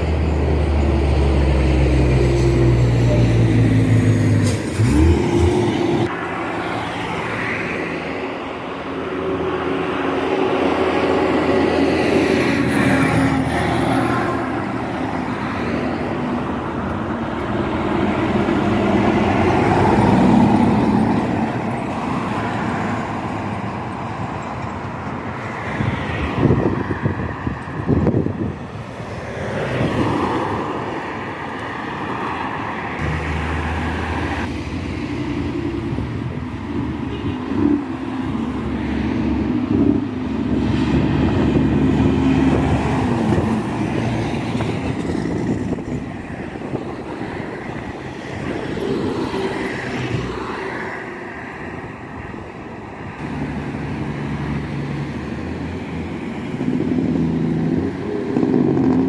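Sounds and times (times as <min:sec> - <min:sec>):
truck engine drone: 0:00.0 - 0:26.6, 0:33.0 - 0:50.5, 0:51.7 - 0:59.0
cars passing: 0:00.0 - 0:59.0.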